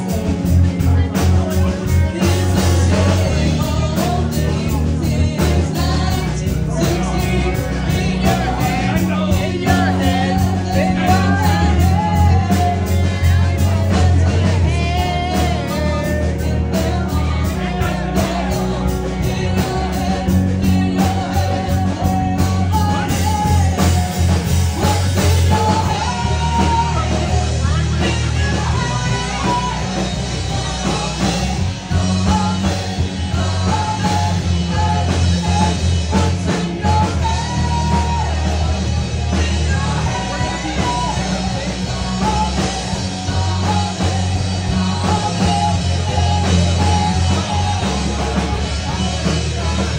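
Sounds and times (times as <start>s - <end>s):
live rock band playing: 0.0s - 49.9s
woman singing into a microphone: 0.1s - 49.9s.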